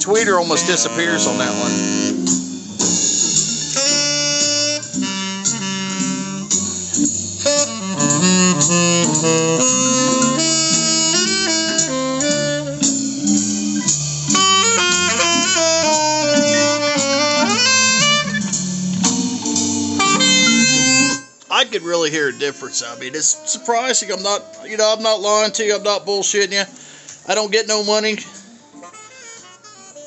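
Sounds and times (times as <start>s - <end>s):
music through hi-fi speakers: 0.0s - 30.0s.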